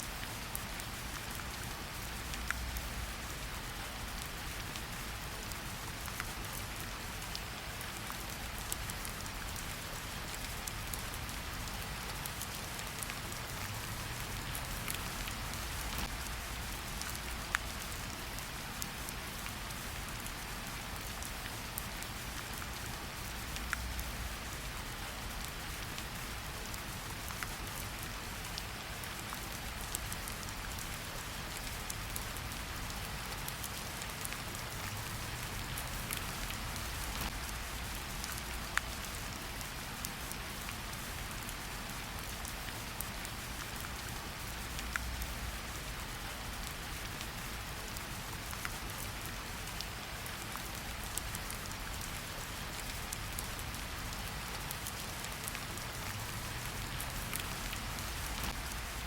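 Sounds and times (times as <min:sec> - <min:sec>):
raindrops ticking on surfaces: 0:00.0 - 0:59.0.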